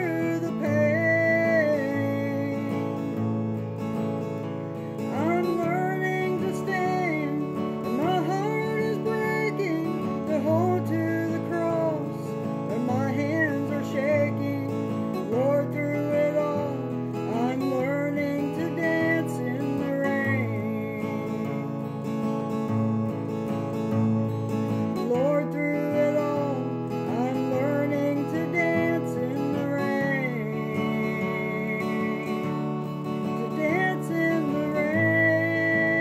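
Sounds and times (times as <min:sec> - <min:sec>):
woman singing: 0:00.0 - 0:03.6, 0:05.0 - 0:22.1, 0:24.9 - 0:36.0
strummed acoustic guitar: 0:00.0 - 0:36.0.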